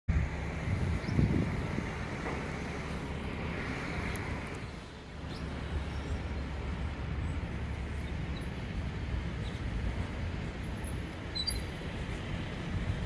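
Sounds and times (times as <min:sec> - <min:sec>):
distant rail car rumbling on track: 0:00.1 - 0:13.0.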